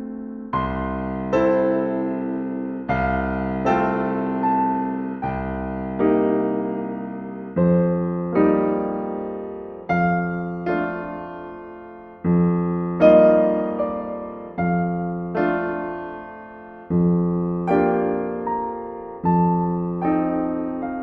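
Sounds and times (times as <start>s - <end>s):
slow solo piano music: 0.0s - 21.0s.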